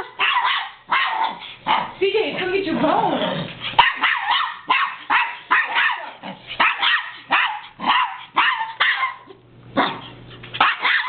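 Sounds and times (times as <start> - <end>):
small dog barking: 0.0 - 2.0, 3.8 - 11.0.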